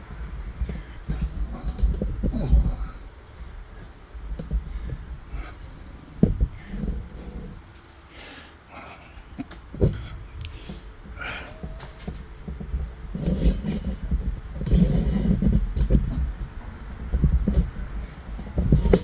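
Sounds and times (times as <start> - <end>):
rubbing and rumbling: 0.0 - 19.0.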